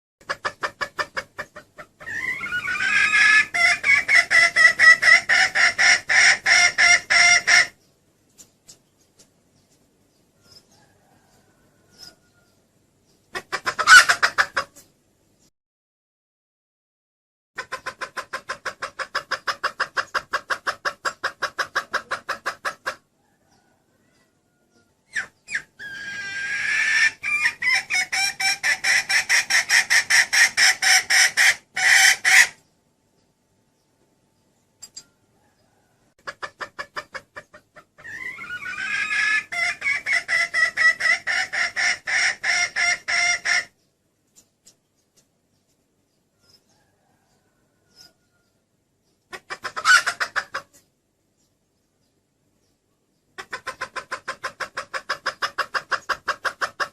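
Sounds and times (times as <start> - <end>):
junglefowl hen clucking: 0.2 - 15.5, 17.6 - 33.3, 34.8 - 50.9, 53.3 - 56.9.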